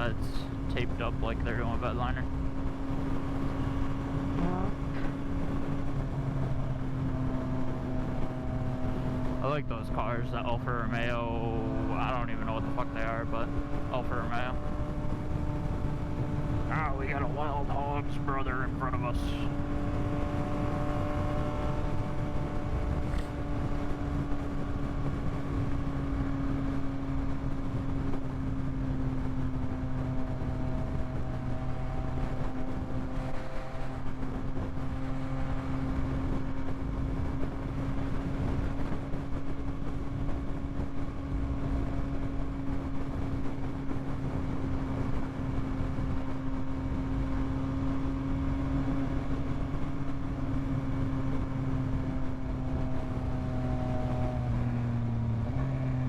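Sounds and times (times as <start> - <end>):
motorcycle engine cruising: 0.0 - 56.0
wind rumbling on microphone: 0.0 - 56.0.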